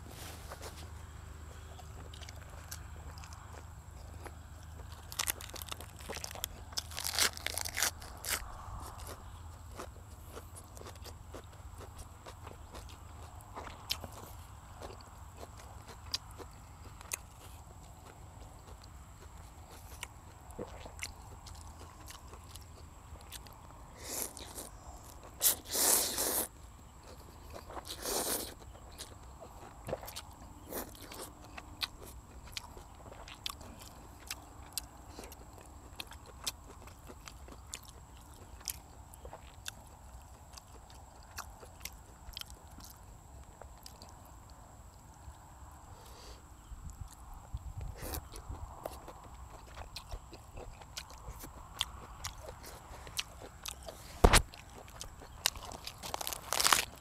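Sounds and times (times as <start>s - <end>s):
wet chewing and mouth smacks: 0.5s - 45.4s, 46.6s - 57.0s.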